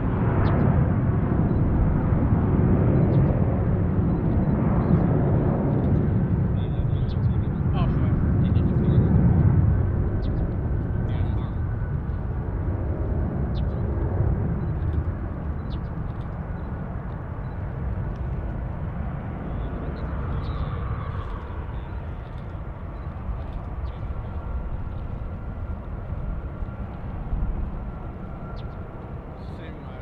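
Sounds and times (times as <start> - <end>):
jet engines low rumble: 0.0 - 30.0.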